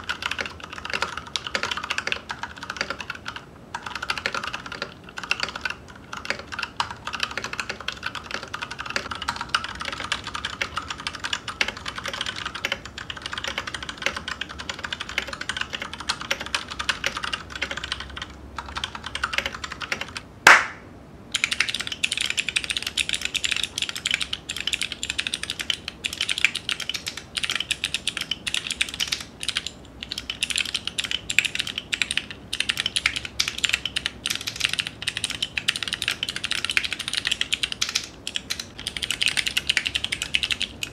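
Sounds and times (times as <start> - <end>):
mechanical keyboard typing: 0.0 - 20.2, 21.3 - 40.9.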